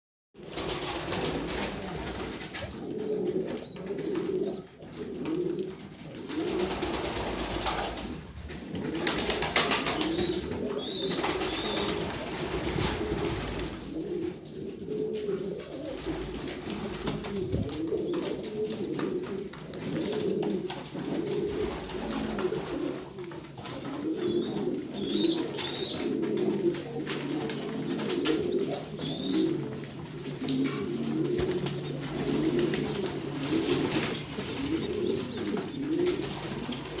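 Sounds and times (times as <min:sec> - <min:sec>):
pigeons cooing: 0:00.4 - 0:37.0.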